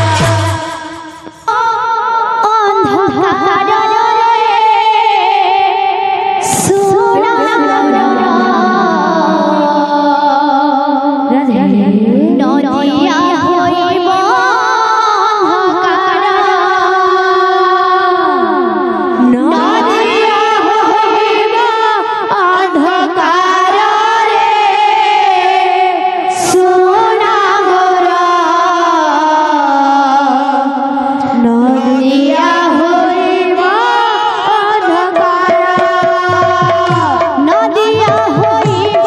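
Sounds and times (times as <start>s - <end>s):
devotional song music: 0.0s - 39.0s.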